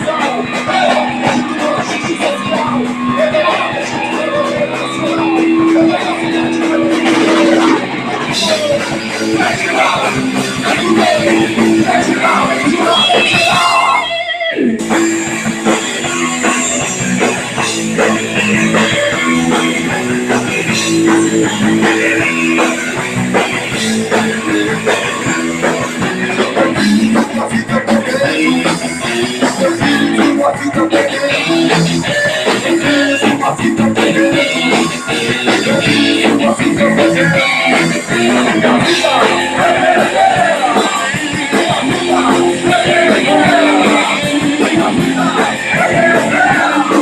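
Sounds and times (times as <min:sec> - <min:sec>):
person singing: 0:00.0 - 0:14.9, 0:24.1 - 0:47.0
drum kit: 0:00.0 - 0:47.0
electric guitar: 0:00.0 - 0:47.0.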